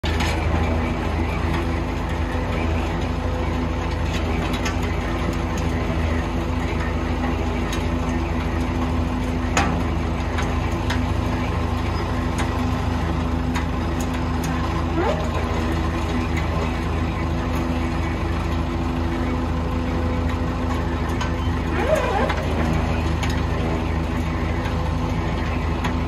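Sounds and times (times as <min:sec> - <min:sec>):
loader engines running: 0:00.0 - 0:26.0.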